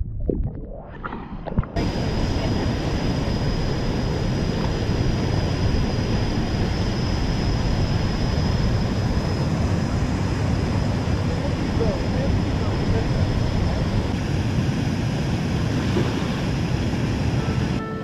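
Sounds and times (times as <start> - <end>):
faint high whine: 1.4 - 18.0.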